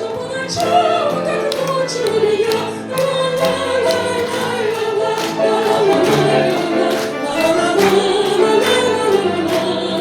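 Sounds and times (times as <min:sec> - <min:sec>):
instrumental accompaniment: 0:00.0 - 0:10.0
voices singing with vibrato: 0:00.0 - 0:10.0.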